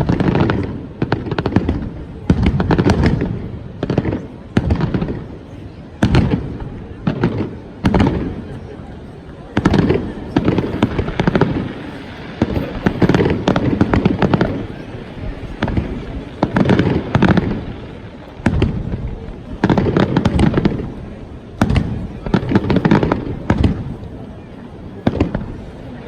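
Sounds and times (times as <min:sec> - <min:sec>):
deep fireworks booms: 0:00.0 - 0:26.0
fireworks crackling bangs: 0:00.0 - 0:26.0.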